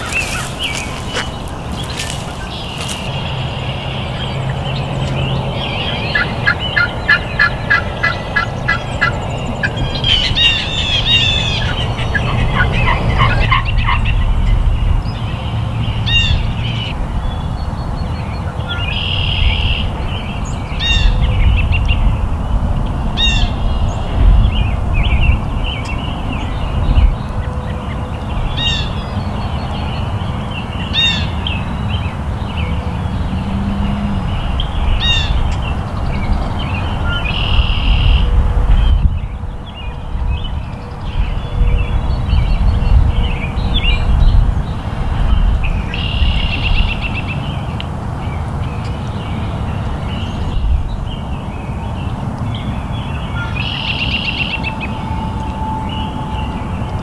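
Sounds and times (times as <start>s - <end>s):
birds calling and singing: 0.0s - 57.0s.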